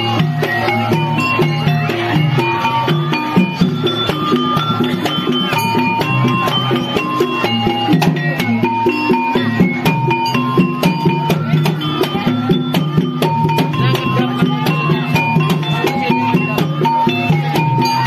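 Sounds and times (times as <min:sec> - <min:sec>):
drums playing rhythm: 0:00.0 - 0:18.0.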